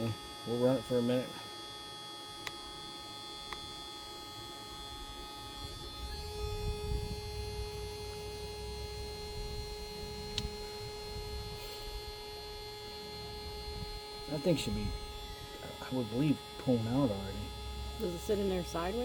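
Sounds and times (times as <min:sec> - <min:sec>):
pump motor humming: 0:00.0 - 0:19.0
steady tone: 0:00.0 - 0:19.0.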